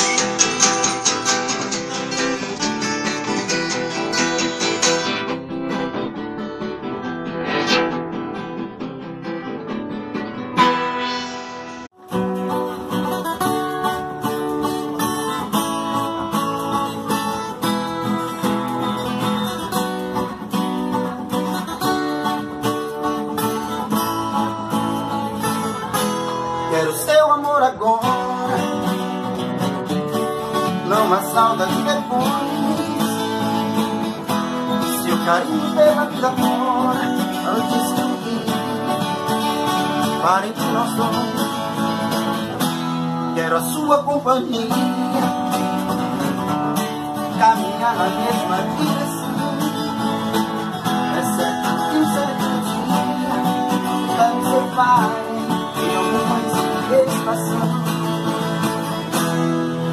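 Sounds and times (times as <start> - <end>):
acoustic guitar melody: 0.0 - 59.9.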